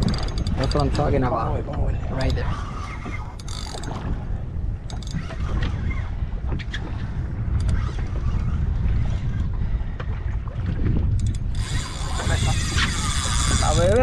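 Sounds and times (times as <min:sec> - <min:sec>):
water against boat hull: 0:00.0 - 0:14.0
wind buffeting microphone: 0:00.0 - 0:14.0.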